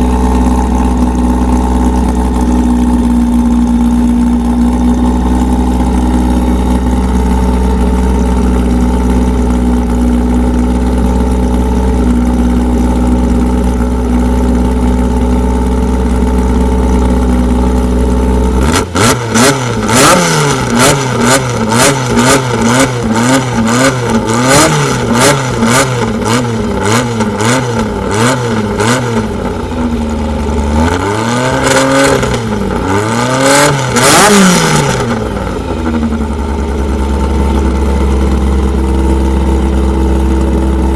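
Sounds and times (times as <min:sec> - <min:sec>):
car engine idling and revving: 0:00.0 - 0:40.9
exhaust cracks: 0:00.0 - 0:40.9.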